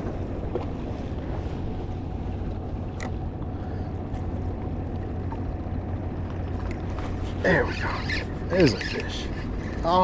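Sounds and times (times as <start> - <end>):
wind and water rumble: 0.0 - 10.0.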